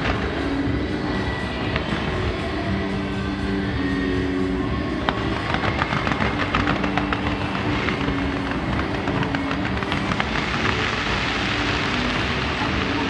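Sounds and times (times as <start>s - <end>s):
fireworks crackling and popping: 0.0s - 3.0s, 4.9s - 13.0s
background noise: 0.0s - 13.0s
music with long held notes: 0.0s - 13.0s.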